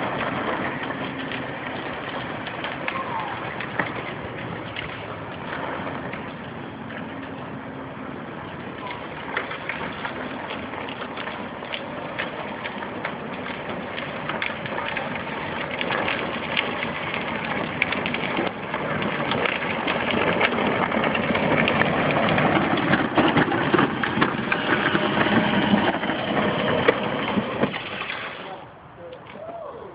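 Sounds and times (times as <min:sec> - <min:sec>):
dense crackling noise: 0:00.0 - 0:29.9.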